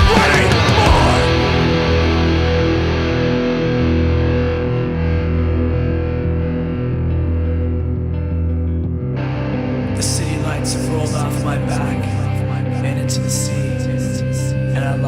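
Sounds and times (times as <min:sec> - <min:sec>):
distorted electric guitar: 0:00.0 - 0:15.0
sustained bass notes: 0:00.0 - 0:15.0.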